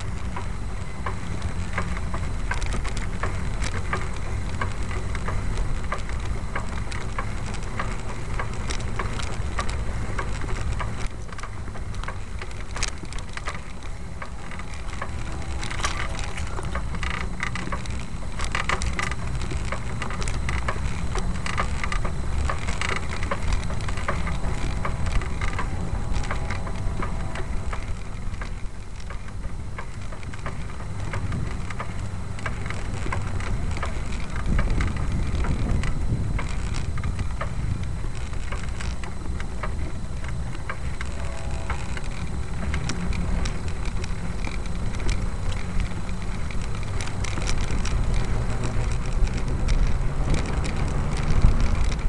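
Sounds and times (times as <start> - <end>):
crackling and clatter: 0.0 - 52.0
vehicle rumble on dirt trail: 0.0 - 52.0.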